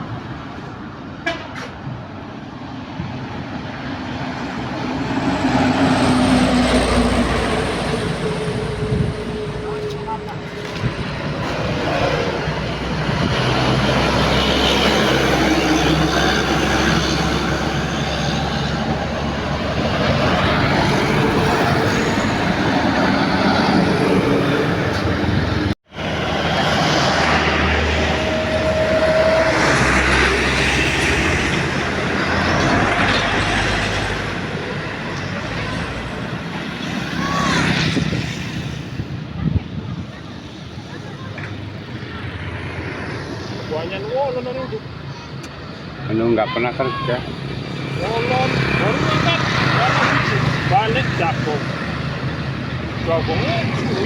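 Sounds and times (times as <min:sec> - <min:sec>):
diesel truck engines running hard: 0:03.0 - 0:54.0
clatter of heavy recovery work: 0:04.3 - 0:37.2, 0:37.8 - 0:54.0.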